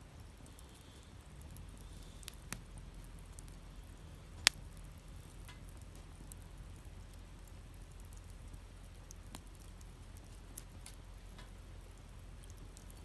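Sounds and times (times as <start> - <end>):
campfire crackling and popping: 0.1 - 13.0.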